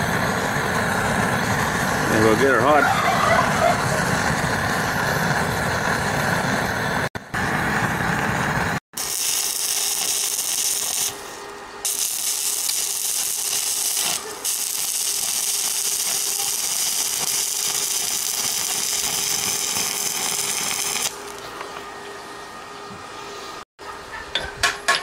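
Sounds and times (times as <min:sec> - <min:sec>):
welding arc crackling: 0:00.0 - 0:21.4.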